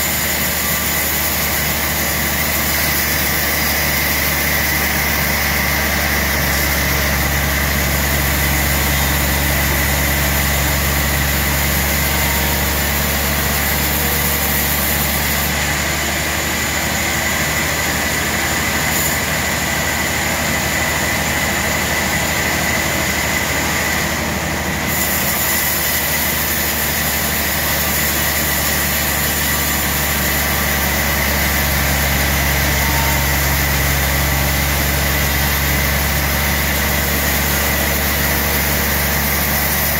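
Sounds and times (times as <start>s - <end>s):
saw blade whine through log: 0.0s - 39.9s
sawmill motor hum: 0.0s - 39.9s.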